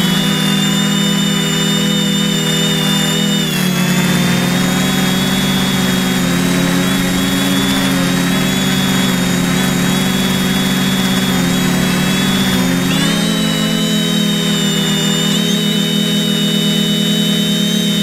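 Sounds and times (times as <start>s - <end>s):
drone motors and propellers humming: 0.0s - 18.0s.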